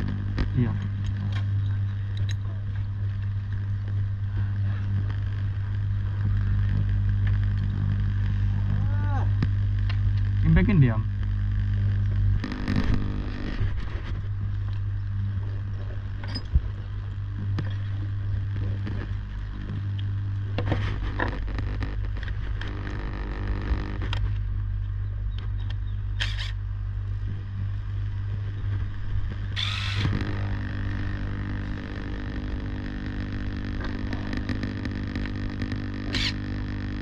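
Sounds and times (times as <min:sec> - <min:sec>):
low machinery hum: 0:00.0 - 0:37.0.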